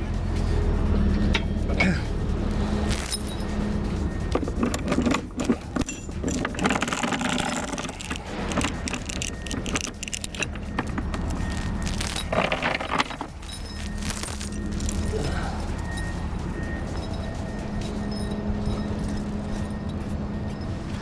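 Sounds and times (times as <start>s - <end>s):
metal clinking and rattling: 0.0s - 21.0s
vehicle engine idling: 0.0s - 21.0s.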